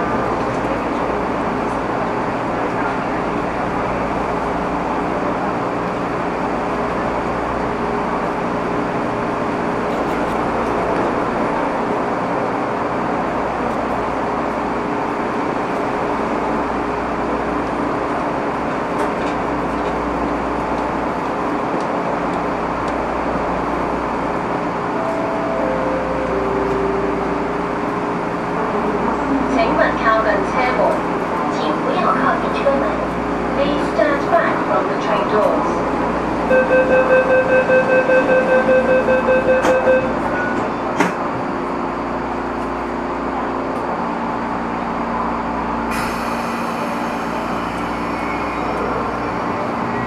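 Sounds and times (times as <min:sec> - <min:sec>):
train equipment hum and hiss: 0:00.0 - 0:50.0.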